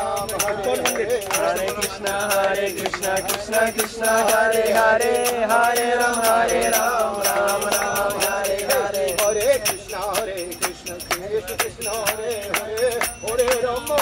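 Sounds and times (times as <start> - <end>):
voices chanting devotional song: 0.0 - 14.0.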